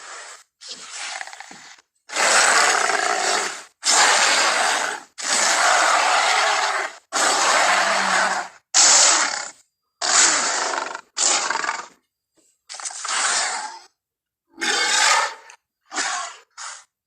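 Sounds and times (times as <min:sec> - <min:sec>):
creature roars and grunts: 0:00.0 - 0:11.9, 0:14.6 - 0:16.8.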